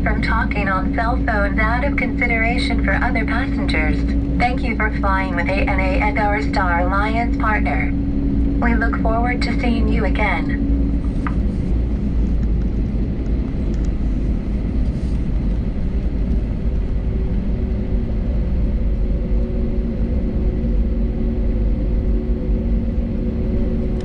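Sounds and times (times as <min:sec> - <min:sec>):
aircraft cabin low rumble: 0:00.0 - 0:24.0
steady hum tones: 0:00.0 - 0:24.0.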